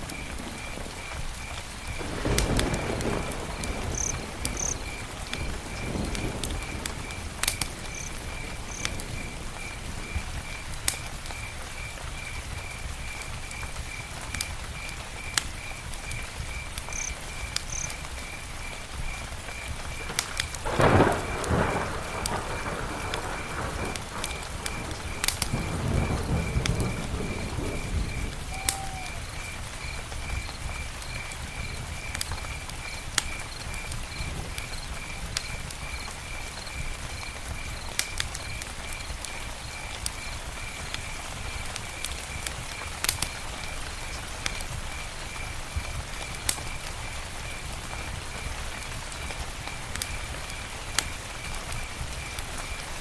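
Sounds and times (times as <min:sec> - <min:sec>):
campfire crackling and popping: 0:00.0 - 0:53.0
insect chirping: 0:00.1 - 0:48.8.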